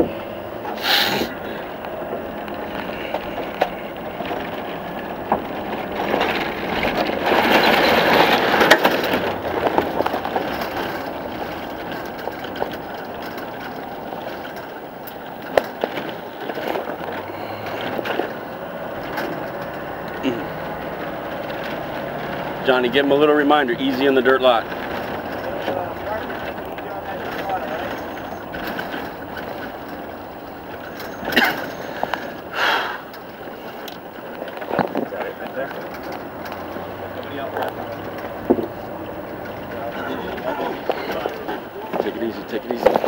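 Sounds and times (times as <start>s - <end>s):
rattling and knocks inside vehicle: 0.0s - 43.0s
vehicle engine and road rumble: 0.0s - 43.0s.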